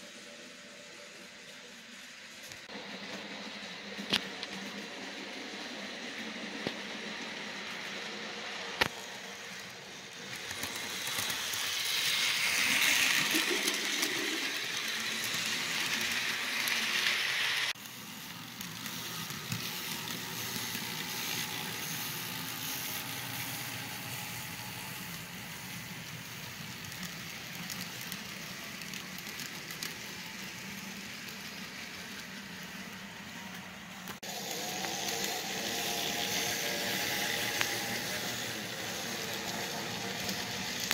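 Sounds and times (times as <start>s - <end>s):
model train motor hum: 0.0s - 40.9s
wheels rattling on rails: 0.0s - 40.9s.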